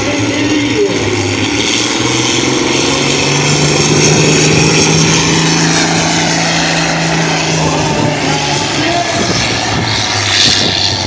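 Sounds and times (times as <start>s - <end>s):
tractor engine at high revs: 0.0s - 11.0s.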